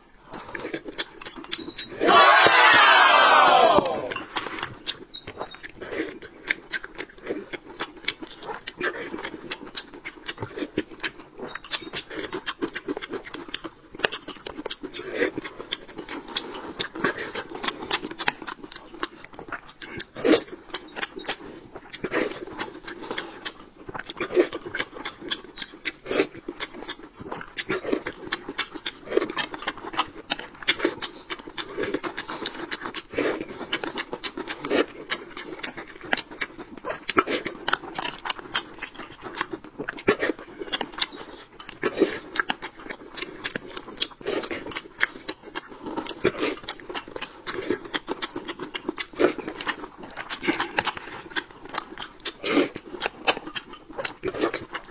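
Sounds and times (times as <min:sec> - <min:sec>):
chewing with wet mouth smacks: 0:00.0 - 0:54.9.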